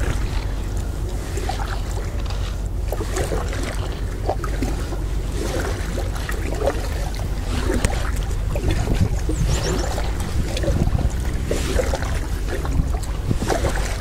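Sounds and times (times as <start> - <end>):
water splashing around kayak: 0.0 - 14.0
wind buffeting microphone: 0.0 - 14.0.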